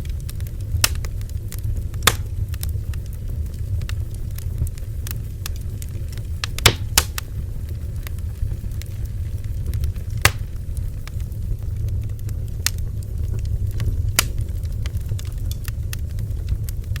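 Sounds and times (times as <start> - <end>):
bonfire crackling: 0.0 - 17.0
fire pops and snaps: 0.0 - 17.0.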